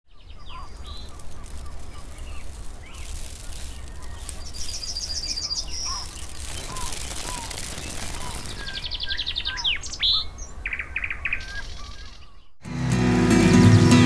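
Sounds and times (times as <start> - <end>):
birds chirping: 0.1 - 12.6
bird trilling: 0.2 - 12.5.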